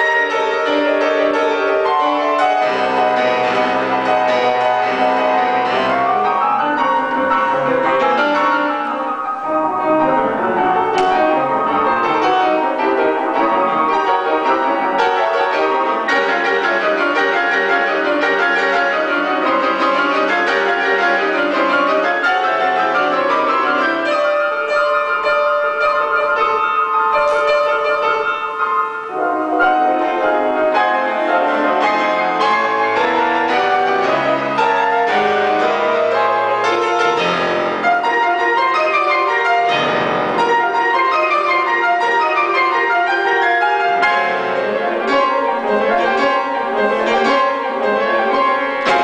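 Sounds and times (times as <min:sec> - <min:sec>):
grand piano playing: 0:00.0 - 0:49.0.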